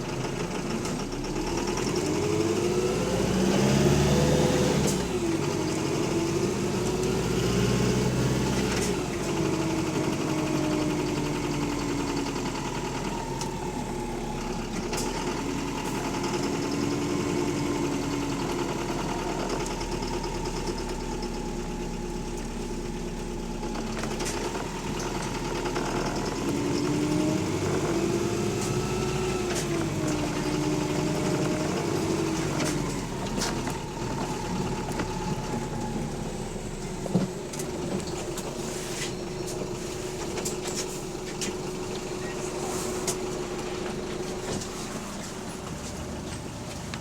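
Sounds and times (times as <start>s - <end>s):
bus engine running: 0.0s - 47.0s
engine whine: 0.0s - 47.0s.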